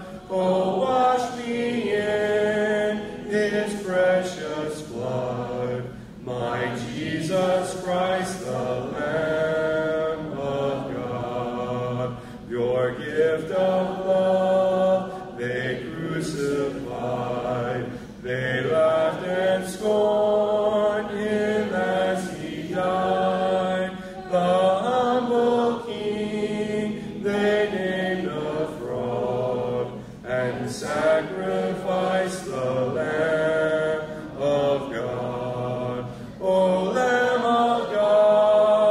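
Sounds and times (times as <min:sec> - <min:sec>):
congregation singing a hymn: 0:00.0 - 0:38.9
man leading singing: 0:00.0 - 0:38.9.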